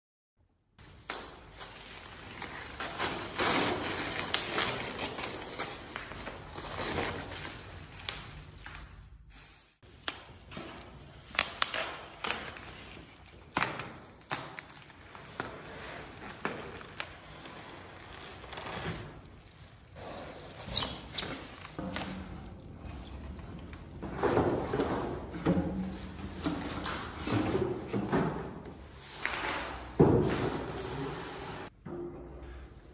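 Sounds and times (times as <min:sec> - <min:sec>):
plastic and bubble wrap crinkling: 0:00.9 - 0:28.0.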